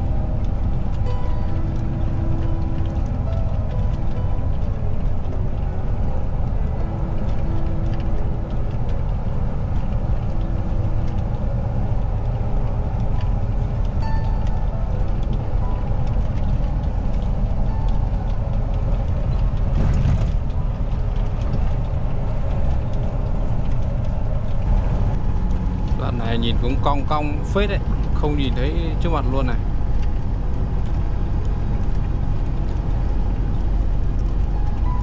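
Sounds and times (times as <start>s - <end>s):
truck engine and road rumble: 0.0s - 35.0s.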